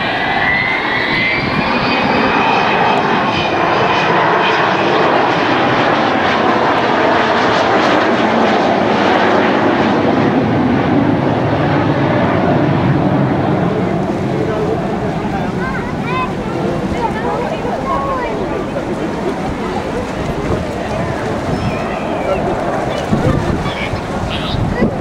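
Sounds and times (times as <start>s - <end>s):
high jet whine: 0.0s - 25.0s
jet aircraft passing overhead: 0.0s - 25.0s.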